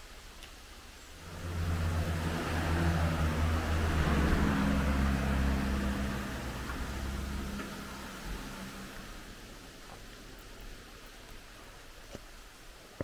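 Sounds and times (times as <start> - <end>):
car passing: 1.2 - 12.0.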